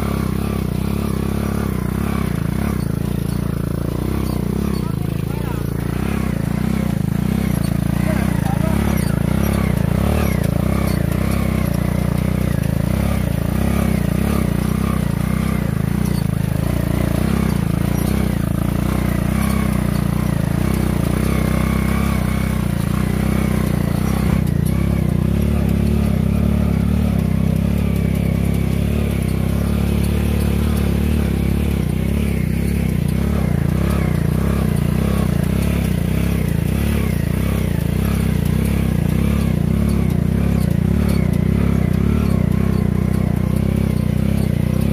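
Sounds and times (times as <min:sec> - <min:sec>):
small motorcycle engine running: 0:00.0 - 0:44.9.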